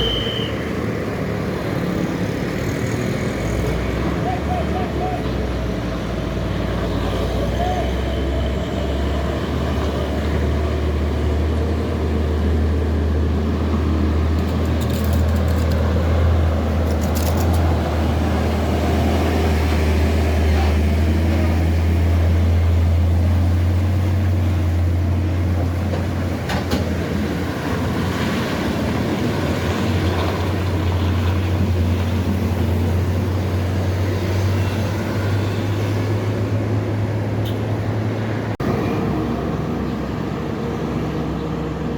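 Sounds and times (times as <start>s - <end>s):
vehicle drone with road noise: 0.0s - 41.9s.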